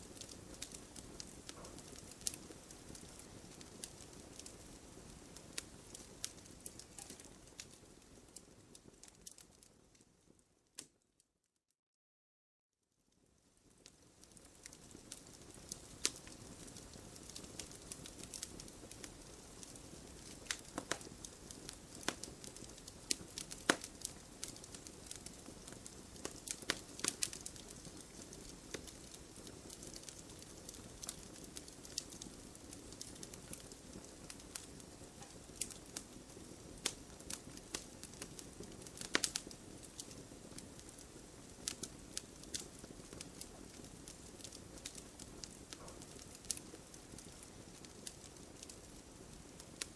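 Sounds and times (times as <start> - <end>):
campfire crackling: 0.0 - 11.0, 13.2 - 49.9.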